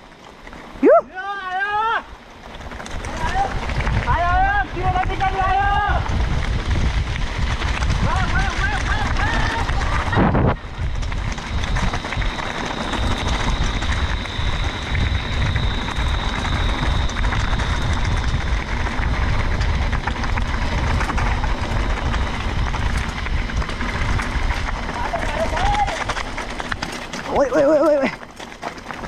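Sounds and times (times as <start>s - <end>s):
bike rattling and clicking: 0.0s - 29.0s
wind rumble on microphone: 1.7s - 29.0s.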